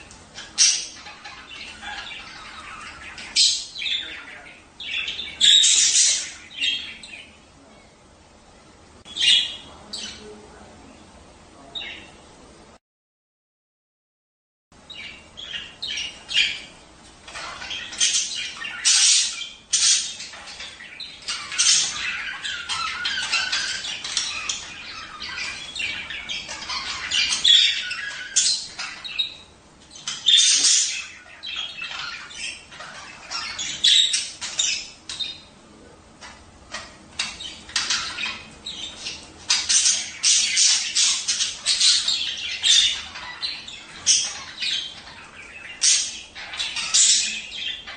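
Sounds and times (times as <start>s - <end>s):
budgerigars chattering: 0.3s - 7.4s, 14.9s - 35.6s, 36.2s - 47.9s.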